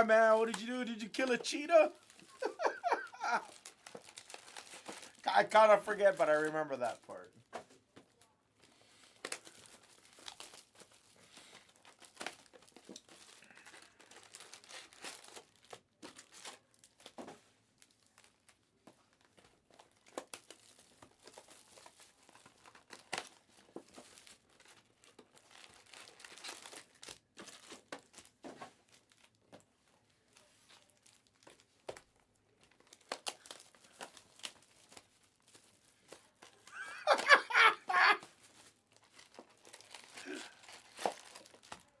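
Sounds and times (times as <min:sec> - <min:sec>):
wrappers crinkling and tearing: 0:00.0 - 0:42.0.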